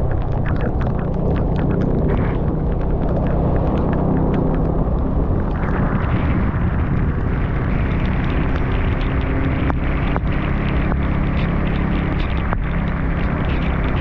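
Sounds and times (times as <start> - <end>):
scooter engine running: 0.0 - 14.0
sharp ticks: 0.0 - 14.0
wind buffeting microphone: 0.0 - 14.0.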